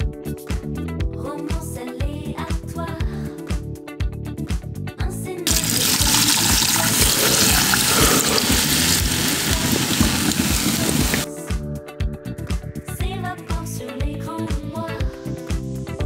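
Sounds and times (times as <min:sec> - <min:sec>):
background music with beat: 0:00.0 - 0:16.0.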